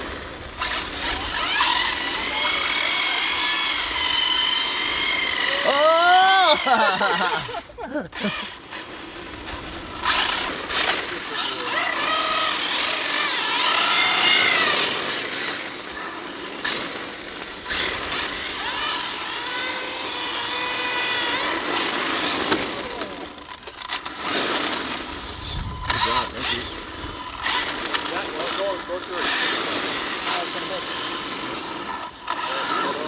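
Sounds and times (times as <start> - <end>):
electric motors whining: 0.0 - 33.0
tyres sliding on pavement: 0.0 - 33.0.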